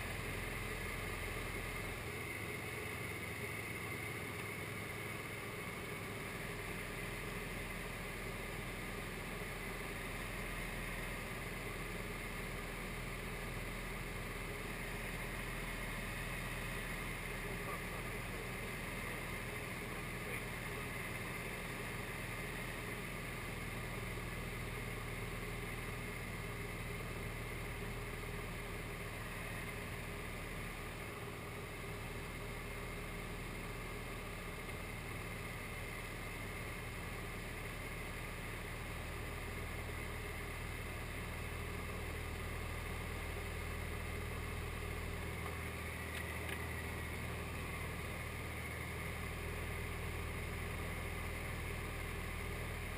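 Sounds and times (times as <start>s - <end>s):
light aircraft engine and propeller: 0.0s - 52.9s.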